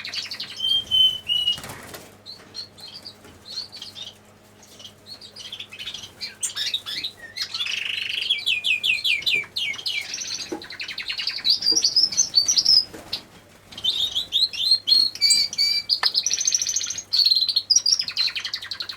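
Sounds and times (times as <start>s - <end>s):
faint steady hum: 0.0s - 18.9s
small birds chirping and trilling: 0.0s - 18.9s.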